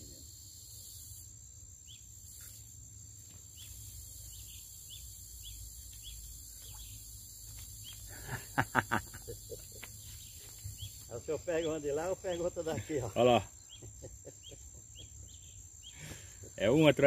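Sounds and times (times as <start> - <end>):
insects buzzing: 0.0 - 17.0
bird chirping: 1.8 - 16.8.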